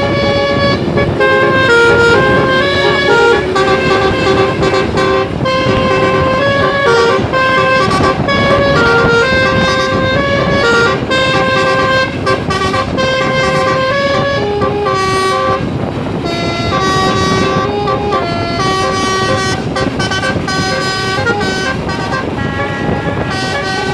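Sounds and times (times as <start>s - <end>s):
bus engines and traffic: 0.0s - 23.9s
bus horns playing a tune: 0.0s - 23.9s.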